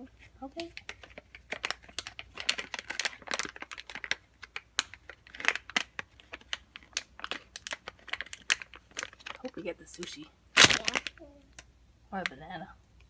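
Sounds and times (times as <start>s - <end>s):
plastic wrapper crinkling and tearing: 0.0s - 11.7s.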